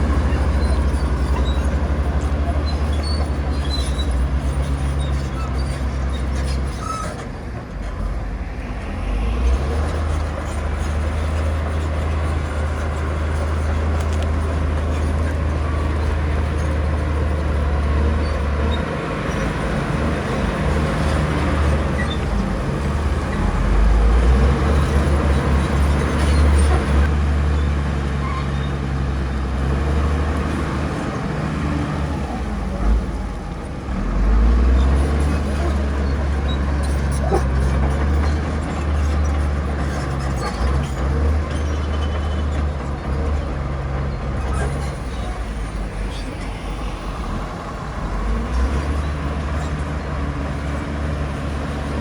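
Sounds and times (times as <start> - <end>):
heavy diesel machinery engine rumble: 0.0 - 52.0.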